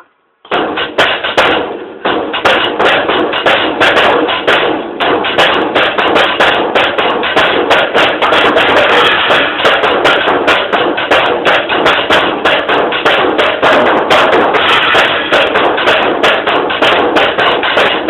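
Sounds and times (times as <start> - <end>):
fast drum solo: 0.5 - 18.0.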